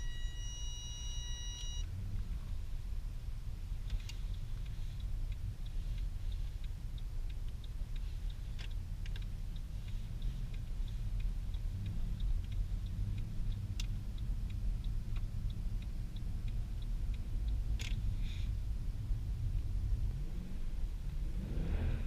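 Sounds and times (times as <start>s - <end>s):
engine and road rumble: 0.0s - 22.0s
turn signal ticking: 0.0s - 22.0s.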